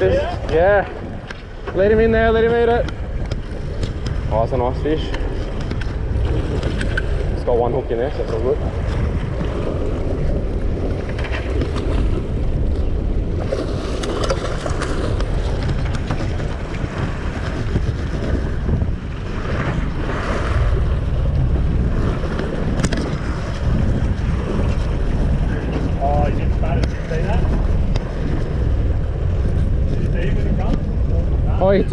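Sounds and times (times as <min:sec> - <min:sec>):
water splashing along boat hull: 0:00.0 - 0:31.9
wind buffeting microphone: 0:00.0 - 0:31.9.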